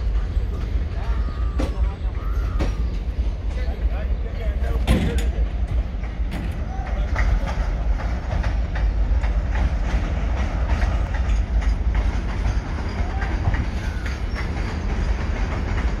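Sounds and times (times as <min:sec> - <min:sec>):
train rumble: 0:00.0 - 0:16.0
train wheels clattering: 0:00.0 - 0:16.0.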